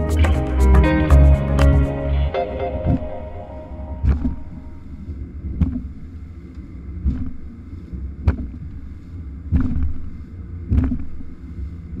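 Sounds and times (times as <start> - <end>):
low motor rumble: 0.0 - 12.0
wind: 0.0 - 12.0.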